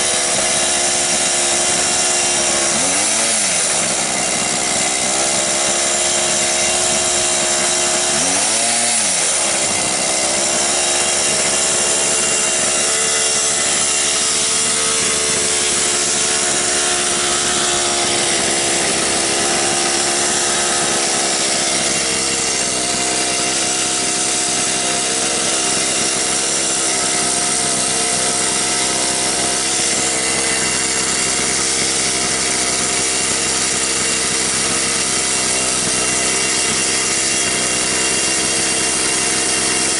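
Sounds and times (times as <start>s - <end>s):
small gas engine revving: 0.0s - 39.9s.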